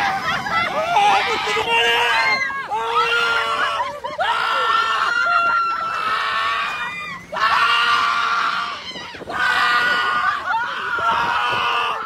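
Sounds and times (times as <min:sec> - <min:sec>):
people screaming: 0:00.0 - 0:12.0.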